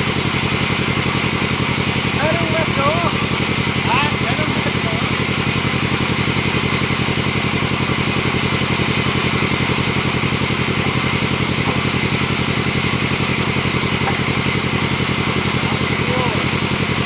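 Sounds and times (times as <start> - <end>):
band sawmill machine running: 0.0 - 17.0.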